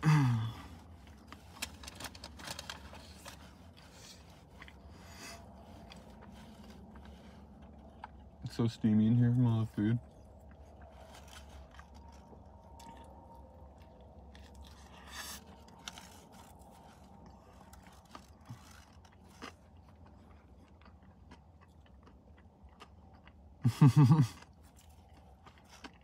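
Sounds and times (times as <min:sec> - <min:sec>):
person chewing food: 0:00.0 - 0:08.6, 0:10.0 - 0:26.0.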